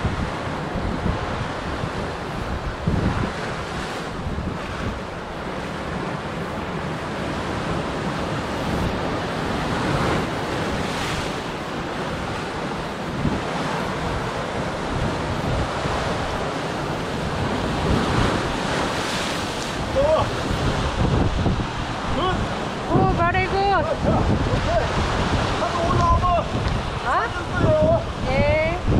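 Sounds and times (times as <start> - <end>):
surf breaking against rocks: 0.0 - 28.9
wind buffeting microphone: 0.0 - 28.9.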